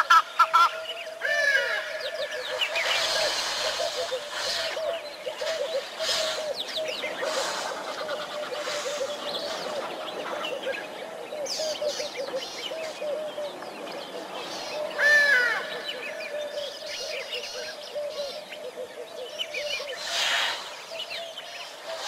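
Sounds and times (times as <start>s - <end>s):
bird chirps: 0.0s - 22.0s
loud bird call: 0.0s - 22.0s.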